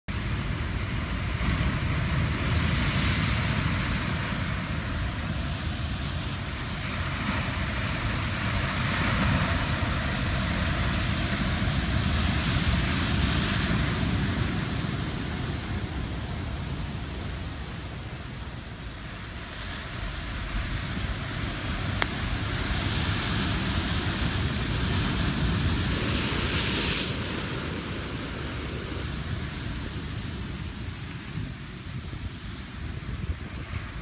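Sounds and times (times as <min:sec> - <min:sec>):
ocean surf breaking on rocks: 0:00.1 - 0:34.0.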